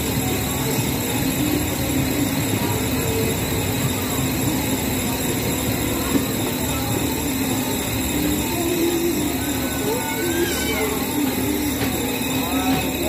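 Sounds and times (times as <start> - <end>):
faint crowd voices: 0.0 - 13.0
machinery rumble: 0.0 - 13.0.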